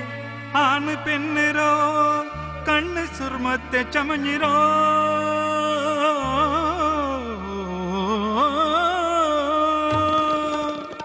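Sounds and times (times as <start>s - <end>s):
low sustained bass: 0.0s - 10.9s
person singing wordless melody: 0.0s - 11.0s.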